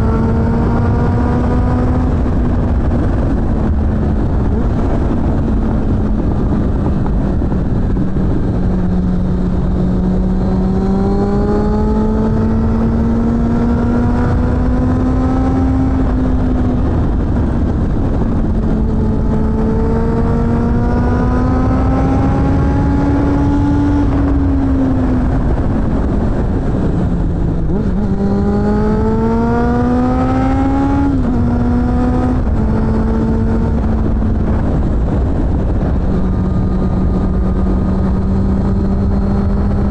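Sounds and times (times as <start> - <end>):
low rushing noise: 0.0 - 39.9
motorcycle engine revving: 0.0 - 39.9.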